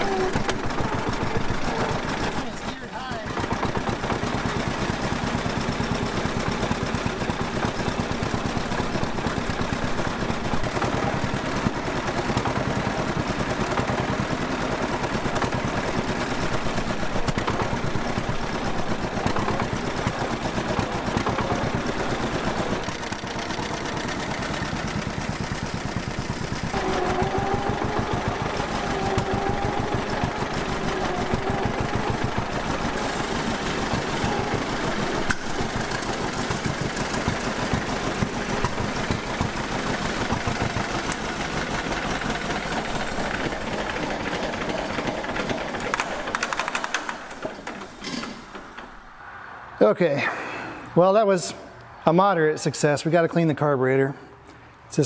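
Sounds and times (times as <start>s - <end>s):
tractor engine popping unevenly: 0.0s - 49.0s.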